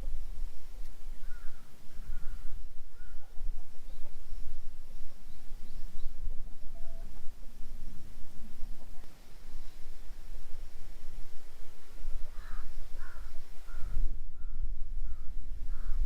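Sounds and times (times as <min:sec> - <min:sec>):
faint bird calls: 0:00.0 - 0:16.0
steady low rumble: 0:00.0 - 0:16.0.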